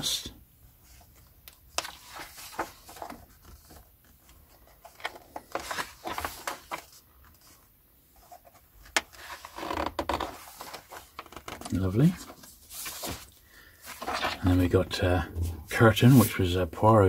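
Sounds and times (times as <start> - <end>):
paper pages rustling: 0.9 - 16.4.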